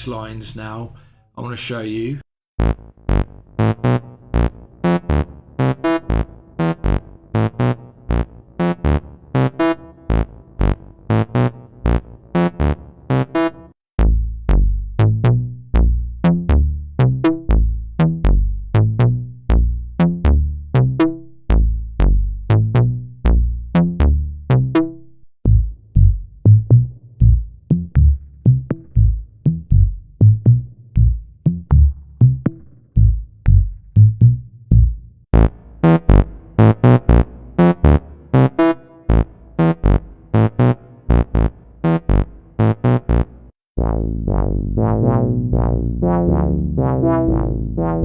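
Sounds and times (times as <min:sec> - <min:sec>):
synthesizer bass lines: 0:02.6 - 0:24.9, 0:25.5 - 0:48.0.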